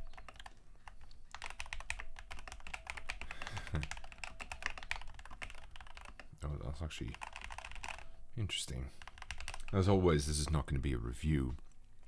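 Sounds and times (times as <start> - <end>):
fast keyboard typing: 0.0 - 10.6.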